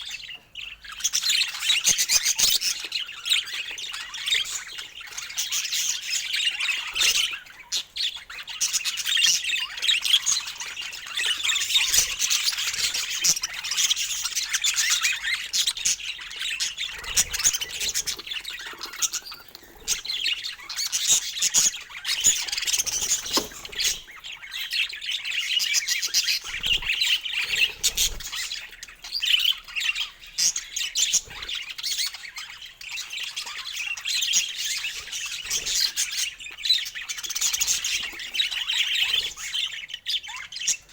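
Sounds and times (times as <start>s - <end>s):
budgies chattering and squawking: 0.0s - 40.9s.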